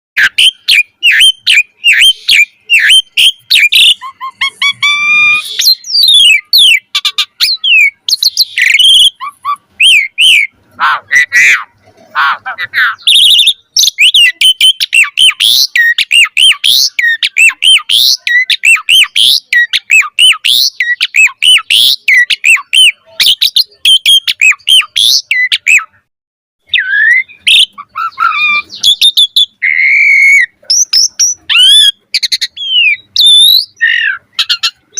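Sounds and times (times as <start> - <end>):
starling singing: 0.2 - 34.9.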